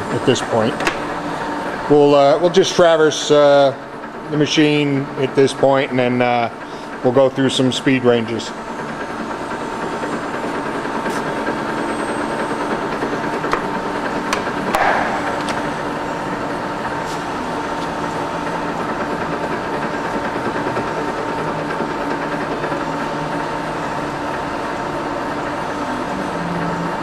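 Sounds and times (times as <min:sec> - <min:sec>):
lathe motor humming: 0:00.0 - 0:27.0.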